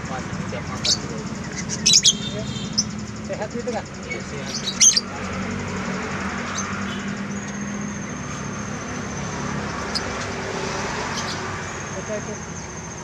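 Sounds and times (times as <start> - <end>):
engine humming: 0.0 - 13.0
traffic noise: 0.0 - 13.0.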